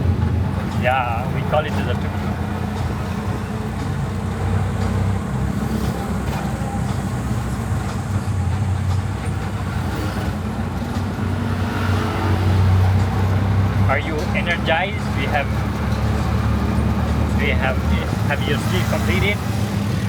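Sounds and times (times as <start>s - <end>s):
electric tricycle rumbling: 0.0s - 20.0s.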